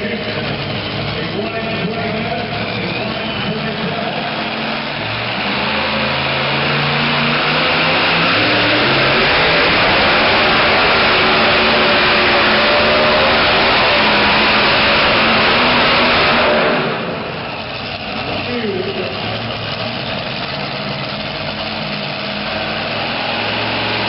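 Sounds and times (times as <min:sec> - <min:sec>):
pulling truck engine at full throttle: 0:00.0 - 0:24.0.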